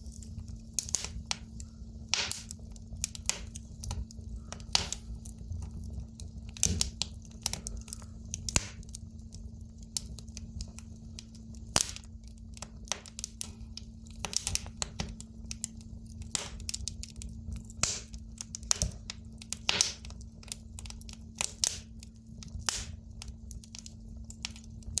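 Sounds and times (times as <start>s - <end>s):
fire crackling and popping: 0.0s - 25.0s
steady low hum: 0.0s - 25.0s.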